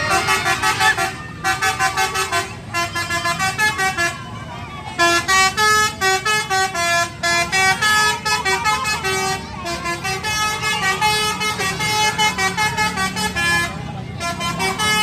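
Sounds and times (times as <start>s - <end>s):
bus horn playing a melody: 0.0s - 15.0s.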